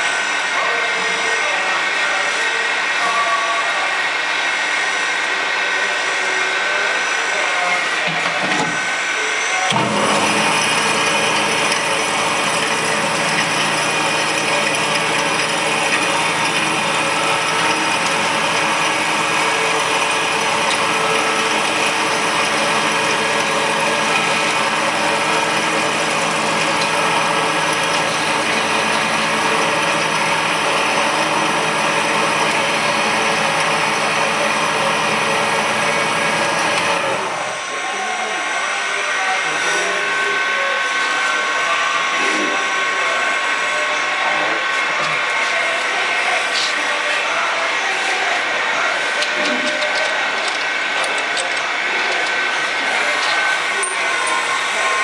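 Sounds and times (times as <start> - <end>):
mixer grinder motor whining: 3.8 - 55.0.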